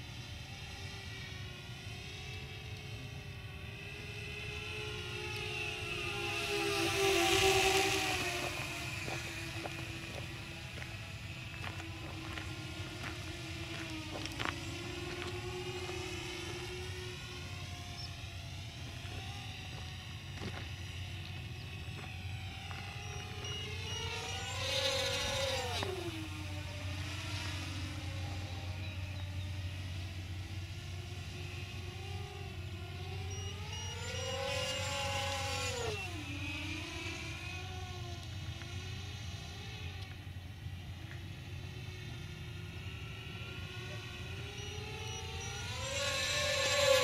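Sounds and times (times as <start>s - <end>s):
drone fast pass-by: 0.0s - 47.0s
drone motors whining: 0.0s - 47.0s.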